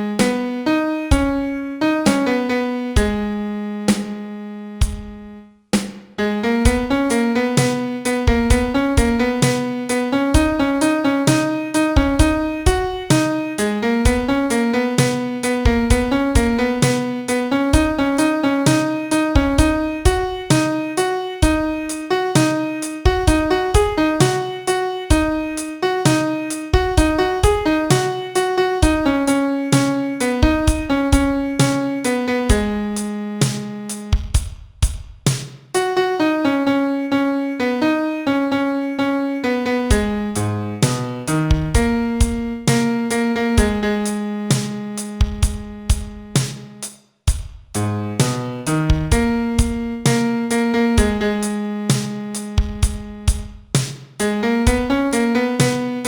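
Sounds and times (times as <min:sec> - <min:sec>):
piano playing pop melody: 0:00.0 - 0:05.4, 0:06.2 - 0:34.4, 0:35.7 - 0:46.9, 0:47.8 - 0:56.0.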